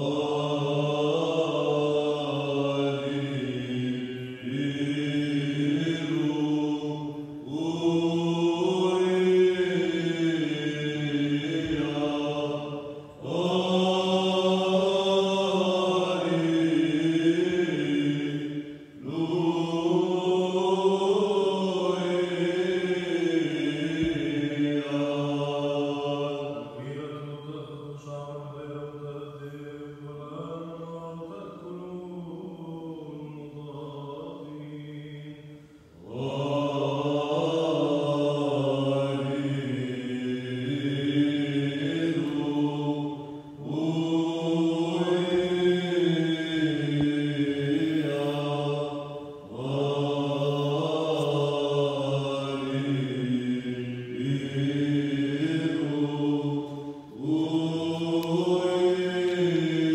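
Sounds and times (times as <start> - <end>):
men chanting in reverberant hall: 0.0 - 59.9.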